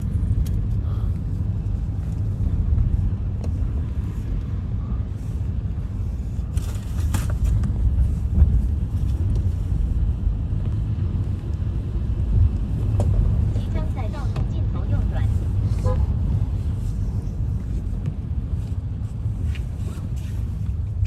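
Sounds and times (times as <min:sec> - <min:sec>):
car road rumble from inside: 0:00.0 - 0:21.0.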